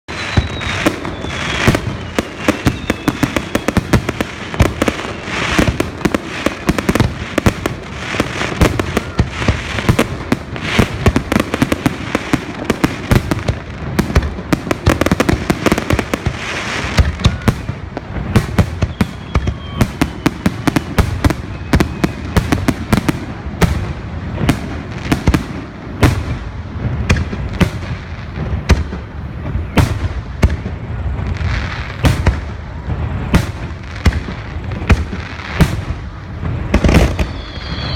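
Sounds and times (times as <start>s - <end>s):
falling firework whistle: 0.1s - 14.3s, 14.9s - 23.8s, 28.8s - 37.9s
fireworks bangs and crackling: 0.1s - 37.9s.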